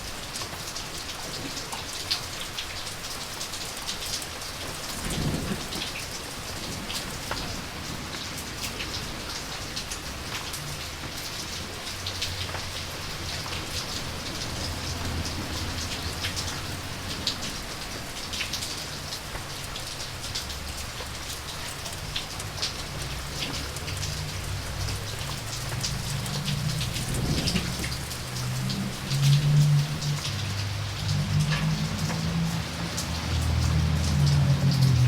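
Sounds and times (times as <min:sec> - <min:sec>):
rain falling: 0:00.0 - 0:35.0
raindrops striking close by: 0:00.0 - 0:35.0.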